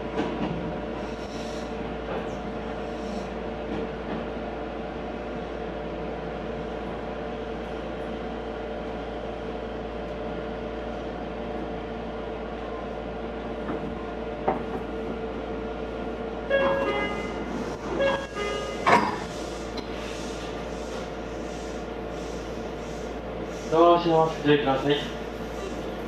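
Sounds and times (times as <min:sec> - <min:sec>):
train car rumble: 0:00.0 - 0:26.0.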